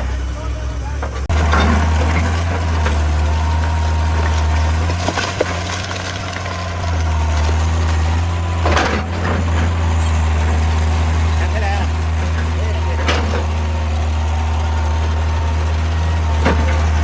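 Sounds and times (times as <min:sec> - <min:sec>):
diesel engine humming with whine: 0:00.0 - 0:17.0.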